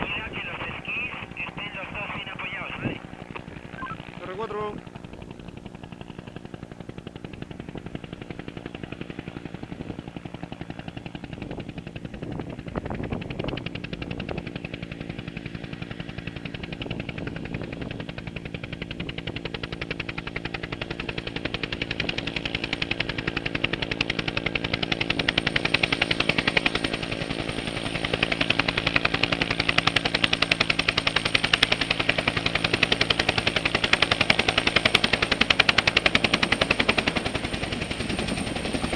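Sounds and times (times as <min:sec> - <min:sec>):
helicopter engine drone: 0:00.0 - 0:38.9
helicopter rotor blades chopping: 0:00.0 - 0:38.9.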